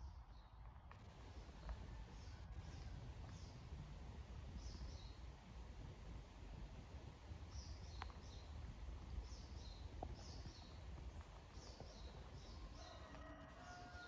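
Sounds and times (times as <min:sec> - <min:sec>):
faint steady tone: 0:00.9 - 0:14.0.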